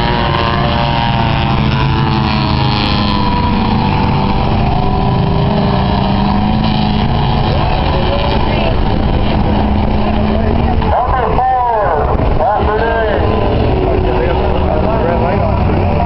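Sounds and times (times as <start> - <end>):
race truck engines: 0.0 - 16.0.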